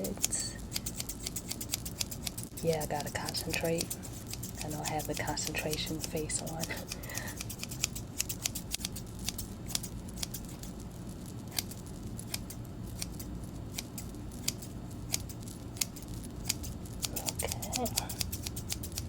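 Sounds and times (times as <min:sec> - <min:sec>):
scissors snipping: 0:00.0 - 0:10.8, 0:11.5 - 0:19.0
low steady hum: 0:00.0 - 0:19.0.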